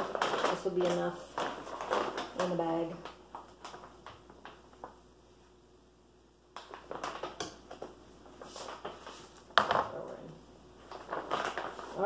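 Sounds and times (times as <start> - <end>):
plastic bags rustling: 0.0 - 5.1, 6.6 - 12.0.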